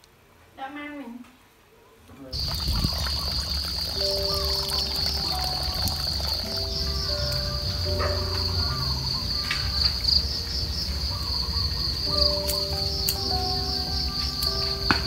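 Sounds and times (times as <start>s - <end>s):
insects chirring: 2.3s - 15.0s.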